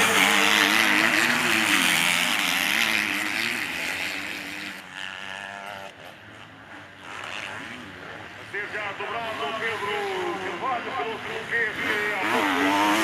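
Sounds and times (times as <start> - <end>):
motorbike engines revving: 0.0 - 13.0.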